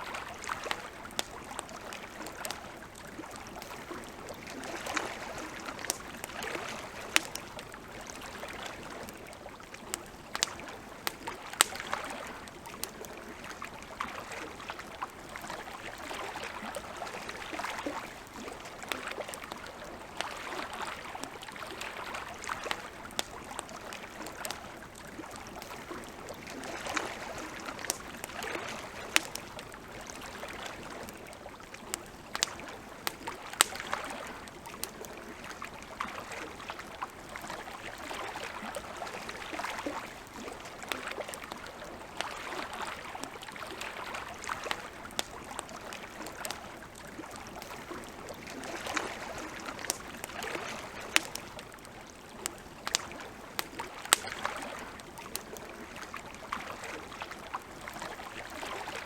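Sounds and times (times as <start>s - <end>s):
campfire crackling and popping: 0.0s - 58.9s
small waves lapping at shore: 0.0s - 59.0s.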